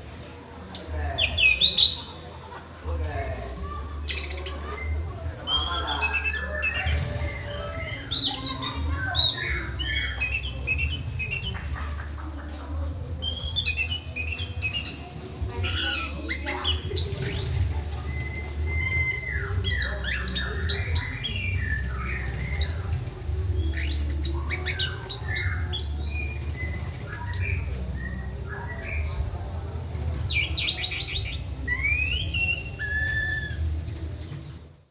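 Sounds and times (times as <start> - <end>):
thrush singing: 3.9 - 34.7.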